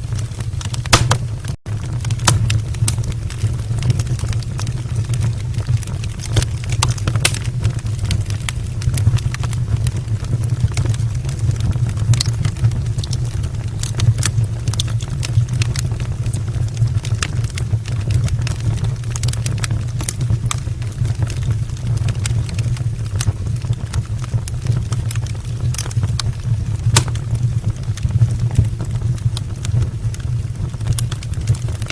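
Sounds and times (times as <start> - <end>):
fire crackling and popping: 0.0 - 31.9
low fire rumble: 0.0 - 31.9.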